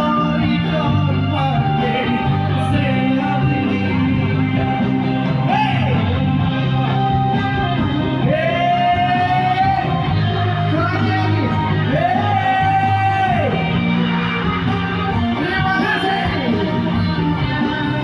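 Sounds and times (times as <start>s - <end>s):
band music with lead singer: 0.0s - 18.0s
bass and drums: 0.0s - 18.0s.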